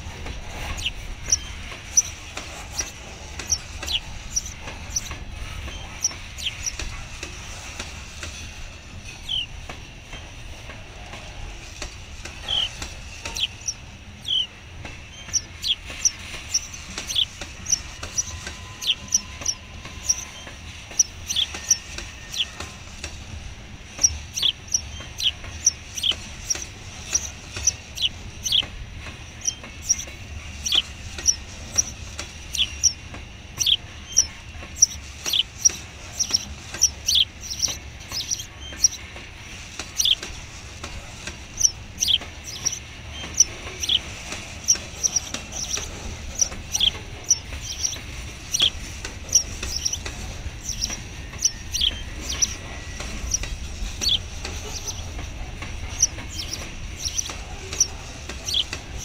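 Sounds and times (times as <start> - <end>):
freight train rumbling past: 0.0 - 59.0
high-pitched wheel squeaks: 0.0 - 59.0.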